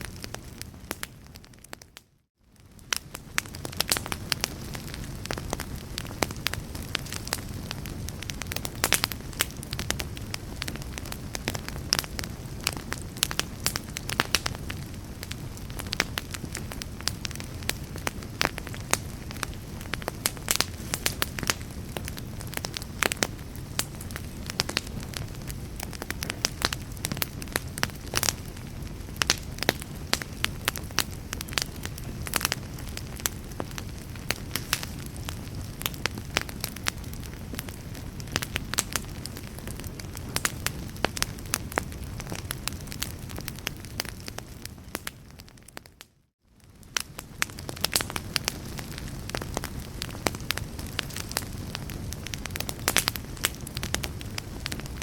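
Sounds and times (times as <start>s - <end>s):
fire pops and snaps: 0.0s - 55.0s
low rumble of flames: 0.0s - 55.0s.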